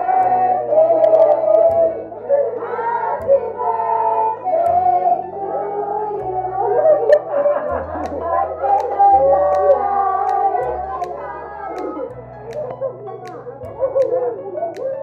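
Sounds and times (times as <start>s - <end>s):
bass line: 0.0s - 15.0s
person singing a melody: 0.0s - 15.0s.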